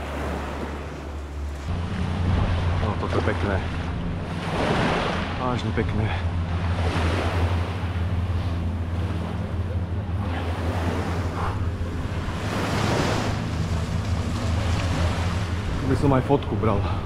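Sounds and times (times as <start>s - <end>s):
low engine drone: 0.0s - 17.0s
sea waves washing onto beach: 0.0s - 17.0s.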